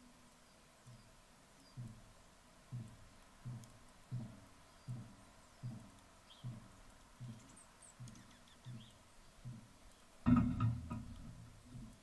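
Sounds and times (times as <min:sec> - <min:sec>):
woodpecker pecking on wood: 0:00.8 - 0:12.0.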